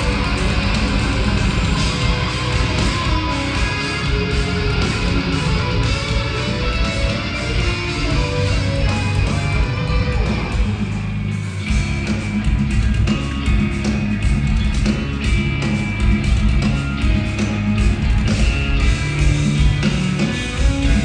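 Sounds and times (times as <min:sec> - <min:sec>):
drums: 0:00.0 - 0:21.0
electric guitars: 0:00.0 - 0:21.0.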